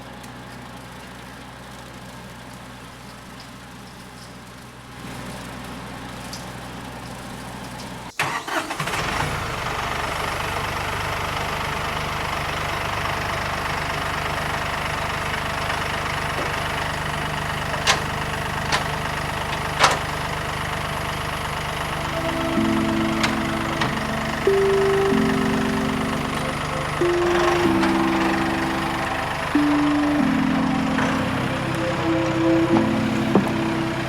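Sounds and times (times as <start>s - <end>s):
diesel engine starting and idling: 0.0s - 34.0s.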